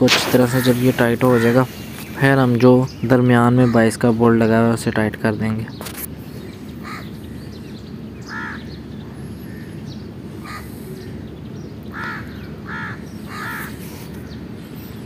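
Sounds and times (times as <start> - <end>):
bird calling: 0.0 - 4.8, 5.5 - 15.0
low background noise: 0.0 - 15.0.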